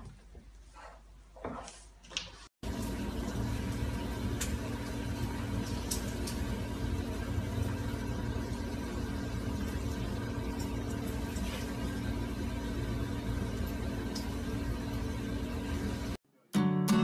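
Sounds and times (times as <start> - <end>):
low mechanical hum: 0.0 - 16.2.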